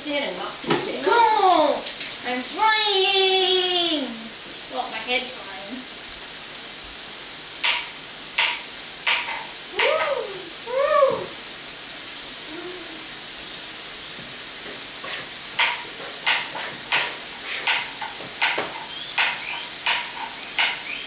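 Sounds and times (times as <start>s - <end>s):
meat and peppers sizzling in skillet: 0.0s - 21.0s.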